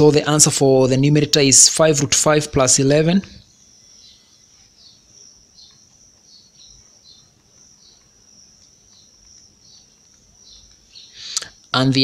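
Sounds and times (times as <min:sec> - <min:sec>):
insect chirps: 0:00.0 - 0:12.0
insect trill: 0:00.0 - 0:12.0.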